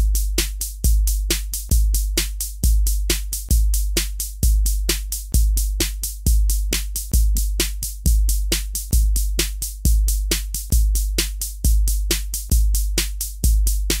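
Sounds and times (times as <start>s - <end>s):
drum machine bass kick: 0.0s - 14.0s.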